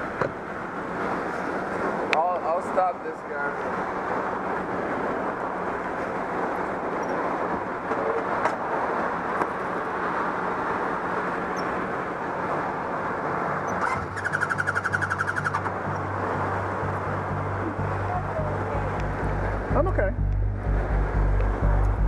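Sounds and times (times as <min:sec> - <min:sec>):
street noise: 0:00.0 - 0:22.0.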